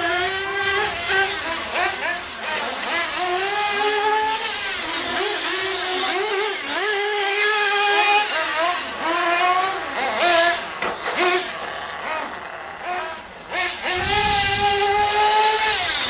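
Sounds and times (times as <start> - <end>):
small model engines revving: 0.0 - 16.0.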